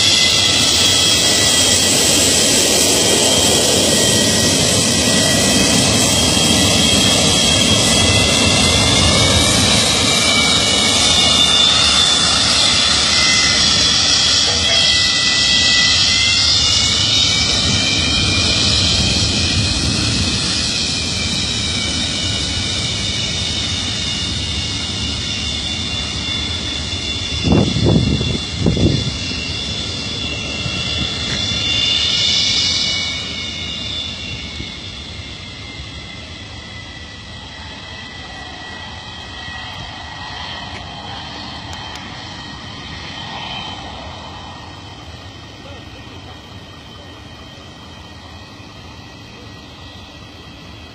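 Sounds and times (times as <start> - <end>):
jet engine hiss: 0.0 - 50.9.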